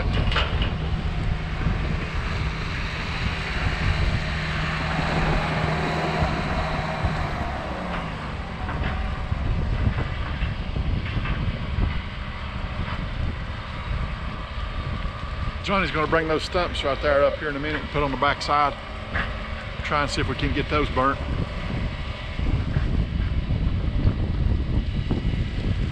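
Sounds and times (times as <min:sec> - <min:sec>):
excavator diesel engine running: 0:00.0 - 0:23.6
wind noise on microphone: 0:00.0 - 0:25.9.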